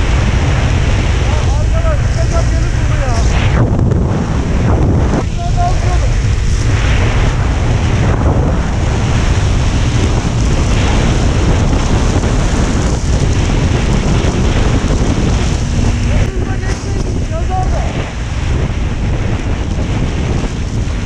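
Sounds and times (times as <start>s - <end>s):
wind buffeting helmet microphone: 0.0s - 21.0s.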